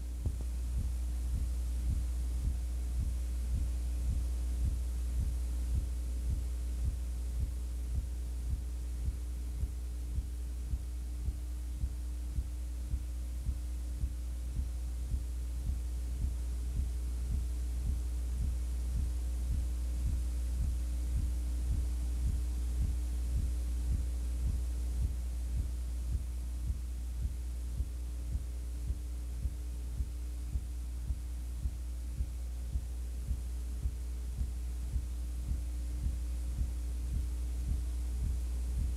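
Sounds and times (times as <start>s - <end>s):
electrical hum with soft throb: 0.0s - 38.9s.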